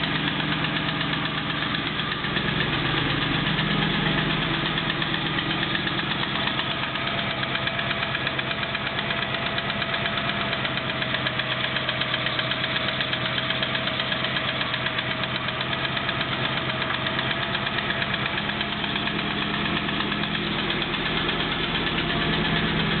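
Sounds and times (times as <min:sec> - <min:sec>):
car engine running with knock: 0:00.0 - 0:23.0.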